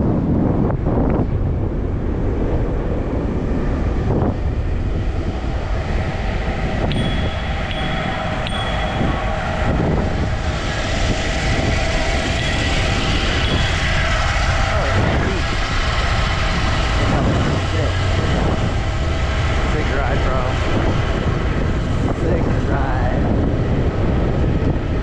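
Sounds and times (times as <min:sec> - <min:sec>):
road noise: 0:00.0 - 0:25.0
wind rumble on microphone: 0:00.0 - 0:25.0.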